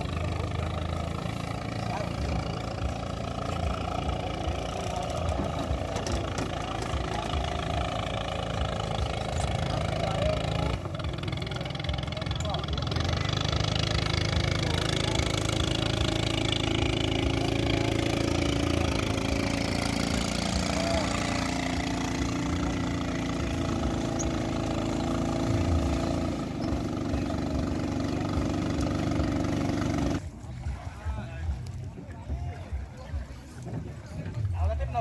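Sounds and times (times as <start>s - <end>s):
engine idling: 0.0s - 30.4s.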